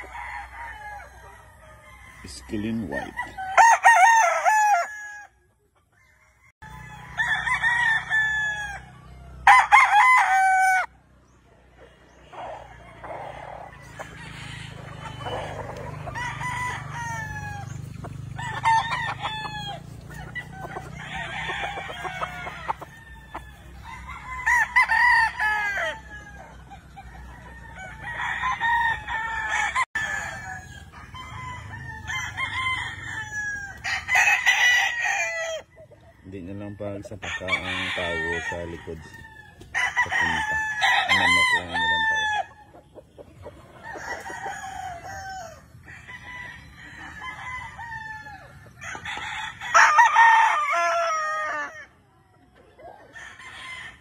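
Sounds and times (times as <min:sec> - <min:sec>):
roosters crowing: 0:00.0 - 0:54.0.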